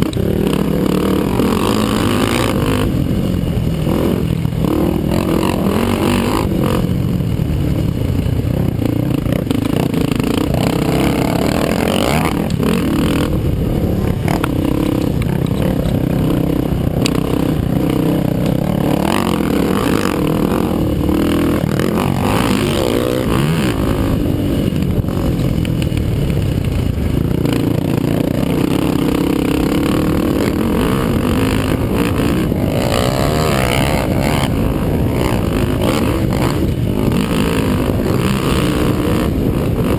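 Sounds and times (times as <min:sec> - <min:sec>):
quad engines revving: 0:00.0 - 0:39.9.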